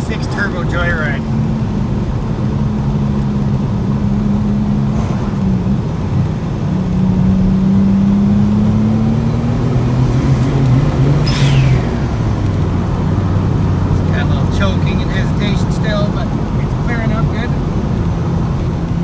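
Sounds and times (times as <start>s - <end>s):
car engine pulling under load: 0.0s - 19.0s.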